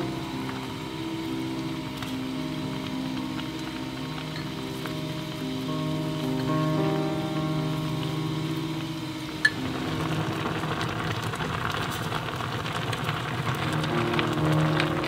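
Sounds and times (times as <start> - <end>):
soft background music: 0.0 - 15.0
stew bubbling at a boil: 0.0 - 15.0.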